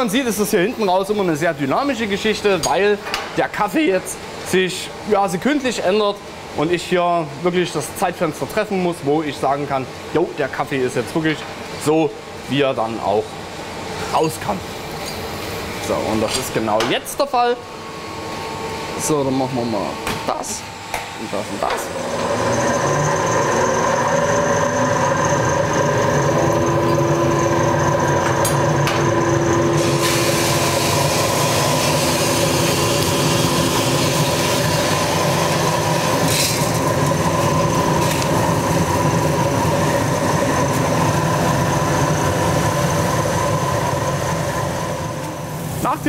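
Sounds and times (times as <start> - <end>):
coffee roaster humming: 0.0 - 46.0.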